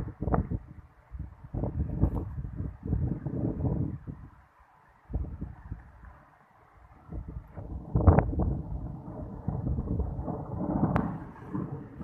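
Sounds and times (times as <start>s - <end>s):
wind buffeting microphone: 0.0s - 4.4s, 5.1s - 6.2s, 6.8s - 12.0s.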